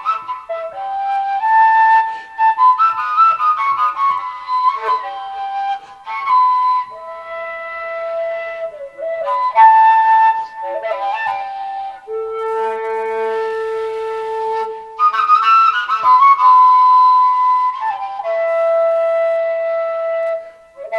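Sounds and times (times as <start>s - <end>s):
flute playing slow melody: 0.0s - 20.9s.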